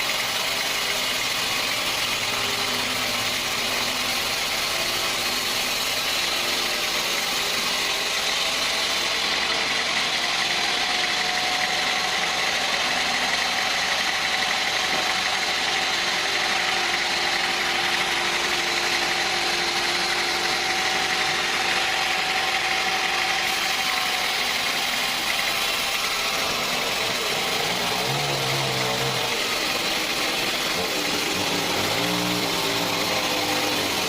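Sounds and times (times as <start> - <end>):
sawmill machinery whining: 0.0 - 34.0.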